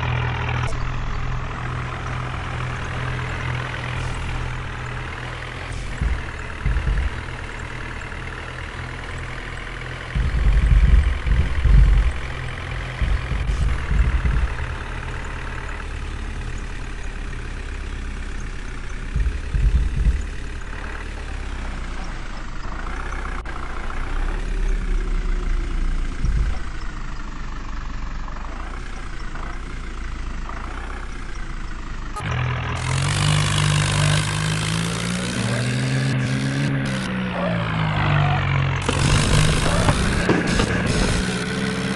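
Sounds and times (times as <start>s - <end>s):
tractor diesel engine: 0.0s - 41.9s.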